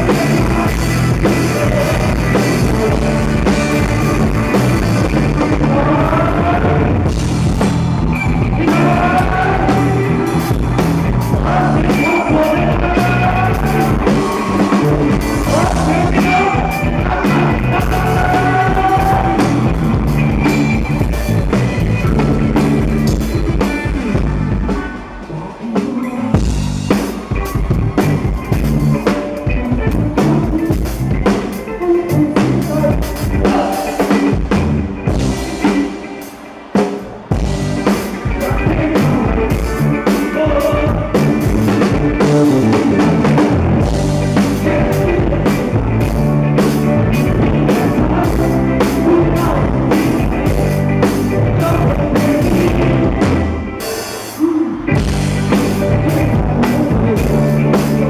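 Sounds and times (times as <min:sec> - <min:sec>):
live rock band: 0:00.0 - 0:58.0
person singing: 0:00.0 - 0:58.0.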